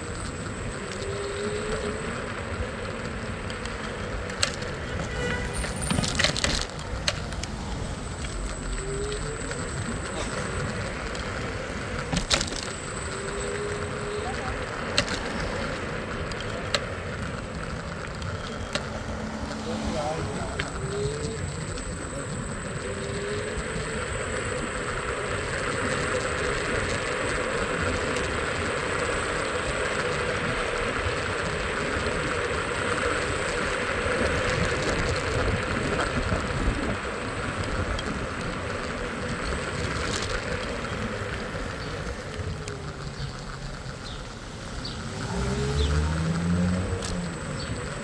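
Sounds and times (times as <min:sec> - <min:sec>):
road noise: 0:00.0 - 0:48.0
scooter engine revving: 0:00.0 - 0:48.0.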